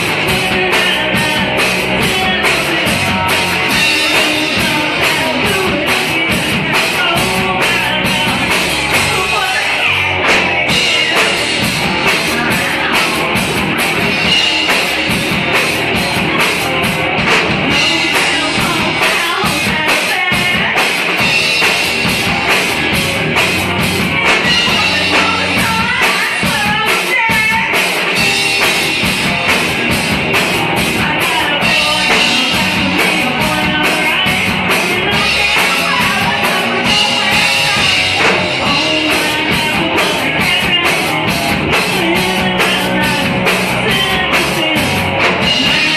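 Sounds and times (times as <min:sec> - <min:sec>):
drum kit with cymbal hits: 0:00.0 - 0:45.9
electric guitar: 0:00.0 - 0:45.9
person singing: 0:00.0 - 0:45.9.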